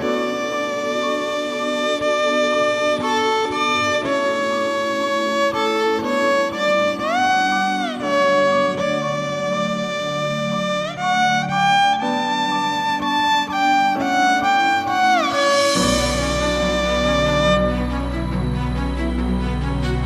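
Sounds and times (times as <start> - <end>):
violin playing long notes: 0.0 - 20.0.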